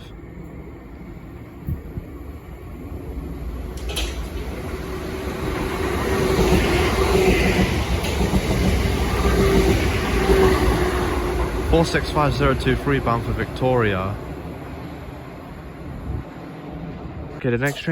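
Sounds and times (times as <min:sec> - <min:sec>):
train wheels on rails: 0:00.0 - 0:17.9.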